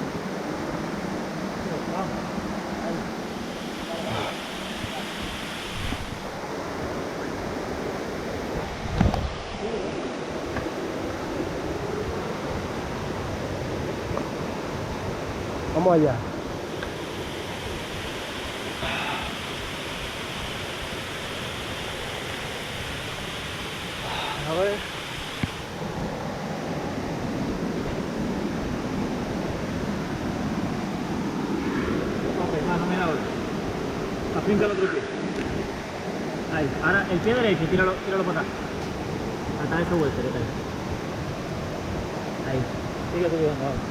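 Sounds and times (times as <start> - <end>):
river and waterfall rushing: 0.0 - 43.9.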